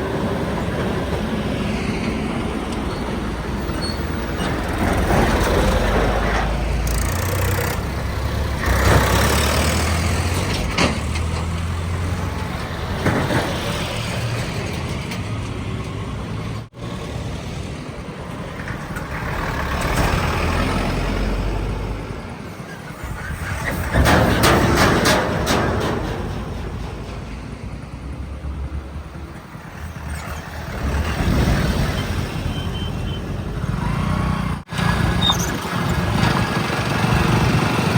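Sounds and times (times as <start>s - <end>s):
heavy diesel engines running: 0.0s - 37.9s.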